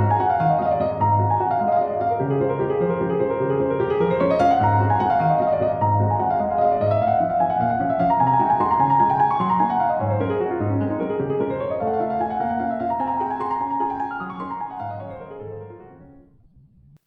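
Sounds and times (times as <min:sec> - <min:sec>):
gentle piano music: 0:00.0 - 0:16.7.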